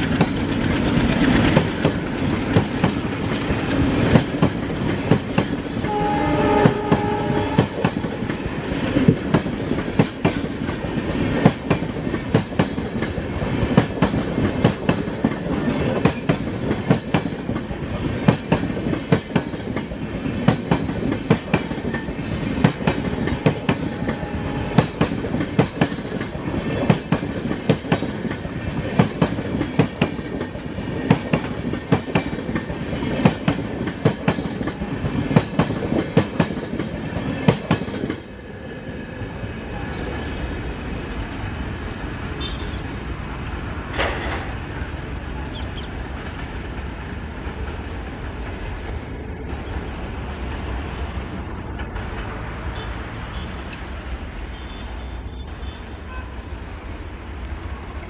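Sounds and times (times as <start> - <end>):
train wheels clacking on rail joints: 0.0 - 38.3, 43.9 - 44.7, 45.5 - 53.8
train rumble: 0.0 - 58.0.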